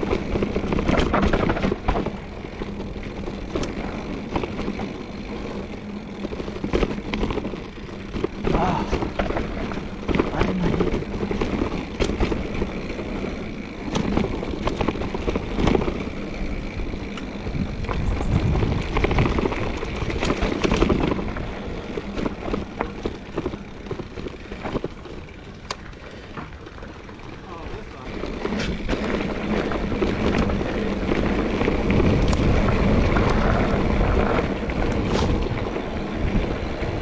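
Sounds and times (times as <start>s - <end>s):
bike clacking and rattling: 0.0s - 37.0s
tyre and wind noise: 0.0s - 37.0s.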